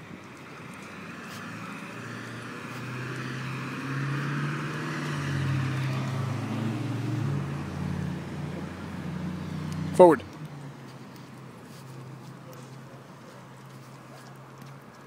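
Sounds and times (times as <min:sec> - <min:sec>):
vehicle passing: 0:00.3 - 0:15.0.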